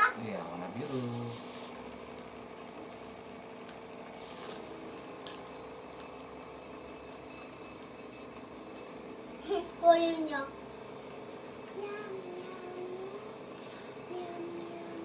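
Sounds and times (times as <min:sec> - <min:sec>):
cotton candy machine humming: 0:00.0 - 0:15.0.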